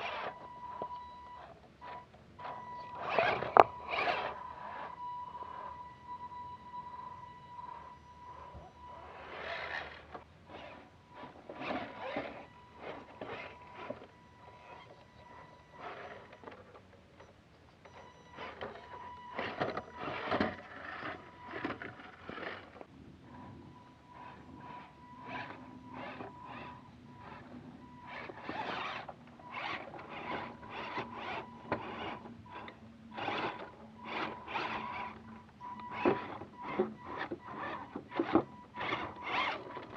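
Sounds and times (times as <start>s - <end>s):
tires scraping and crunching: 0.0s - 6.2s, 6.9s - 17.1s, 18.0s - 39.9s
high-pitched motor whine: 0.0s - 16.8s, 17.9s - 39.9s.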